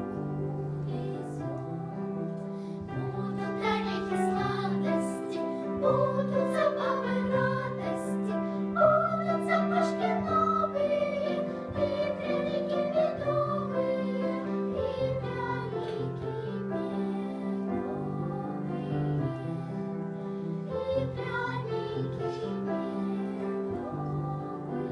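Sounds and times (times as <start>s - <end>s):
instrumental accompaniment: 0.0s - 24.9s.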